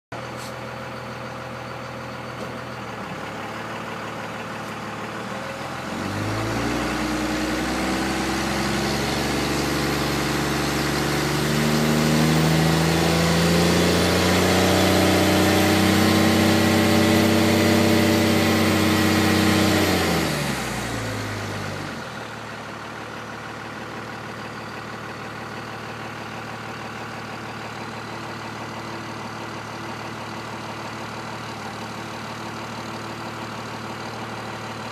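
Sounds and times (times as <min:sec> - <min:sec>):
diesel engine idling and revving: 0:00.1 - 0:34.9.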